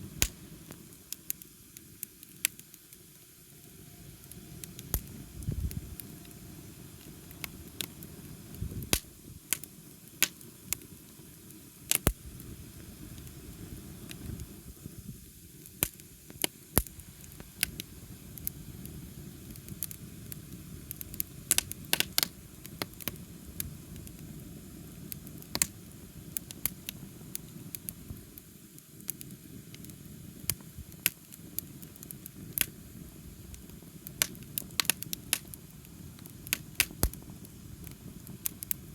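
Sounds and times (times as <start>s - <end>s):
burning wood popping and crackling: 0.0s - 3.3s, 4.2s - 38.9s
low rush of flame: 0.0s - 38.9s.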